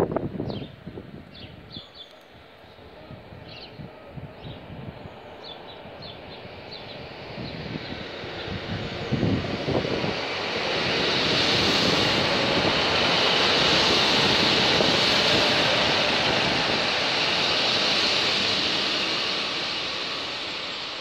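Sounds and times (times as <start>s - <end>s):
train passing: 2.3s - 21.0s.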